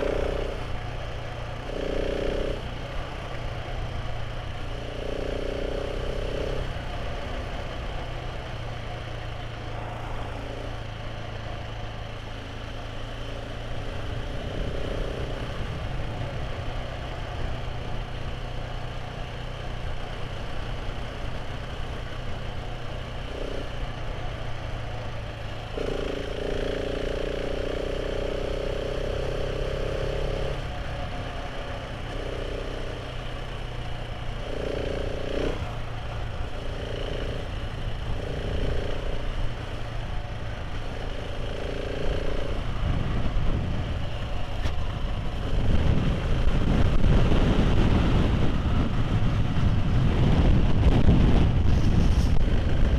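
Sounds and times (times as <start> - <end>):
motorcycle engine running: 0.0 - 52.9
road and wind noise: 0.0 - 52.9.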